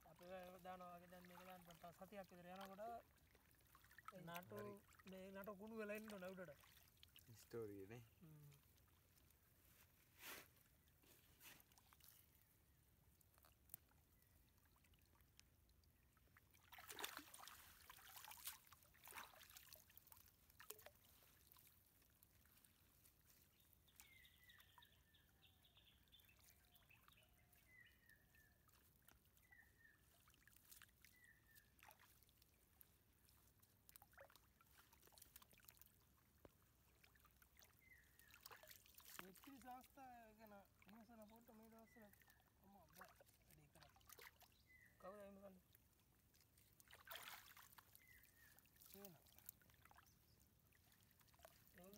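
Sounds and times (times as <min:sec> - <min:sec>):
water splashing and dripping: 0:00.0 - 0:09.4, 0:10.9 - 0:12.4, 0:13.1 - 0:24.8, 0:28.6 - 0:51.9.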